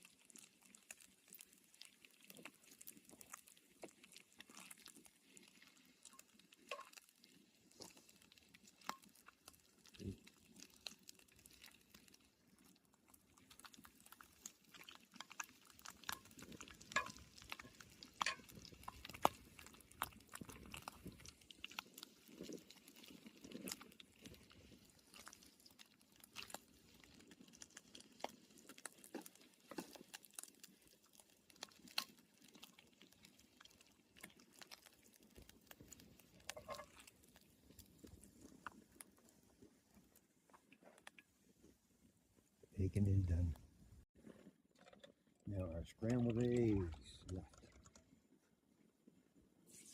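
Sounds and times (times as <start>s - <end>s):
bacon frying in a pan: 0.0s - 41.3s.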